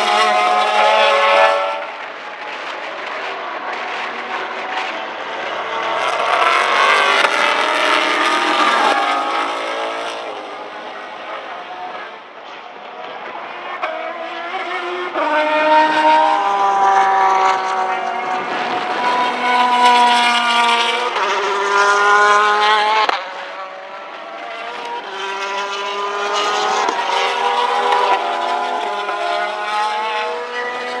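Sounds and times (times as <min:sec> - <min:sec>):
race car engines revving past: 0:00.0 - 0:31.0.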